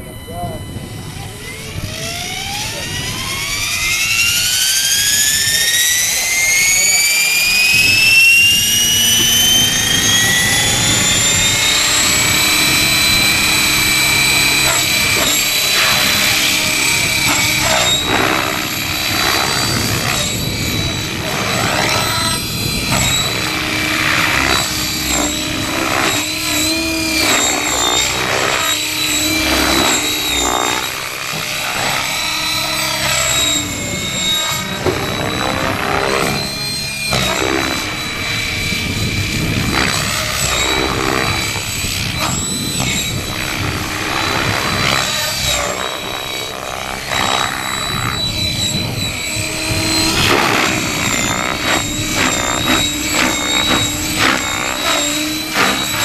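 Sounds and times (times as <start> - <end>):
model helicopter whine: 0.0 - 56.0.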